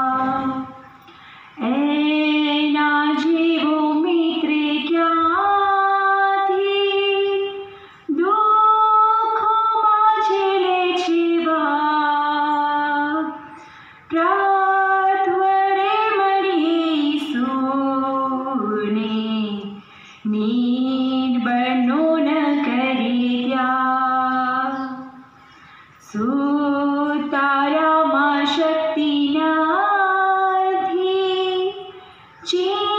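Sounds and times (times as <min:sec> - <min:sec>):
girl singing unaccompanied: 0:00.0 - 0:01.0, 0:01.6 - 0:25.3, 0:26.0 - 0:32.9.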